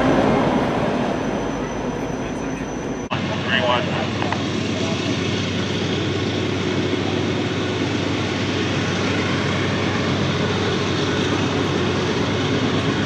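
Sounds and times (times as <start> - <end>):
engine drone with rushing noise: 0.0 - 13.0.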